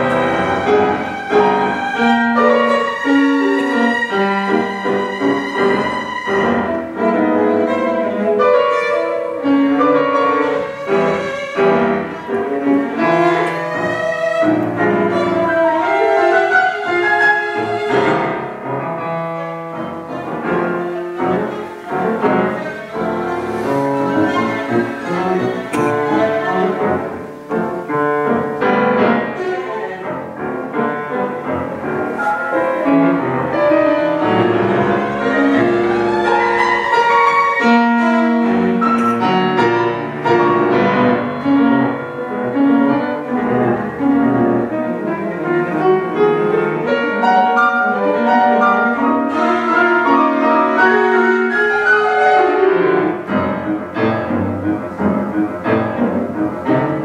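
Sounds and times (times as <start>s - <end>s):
cello: 0.0s - 57.0s
grand piano: 0.0s - 57.0s.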